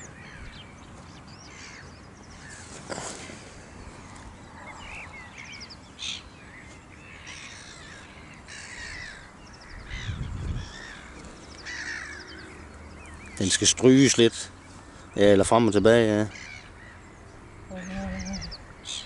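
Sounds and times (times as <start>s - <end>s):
birds calling and trilling: 0.0s - 19.0s.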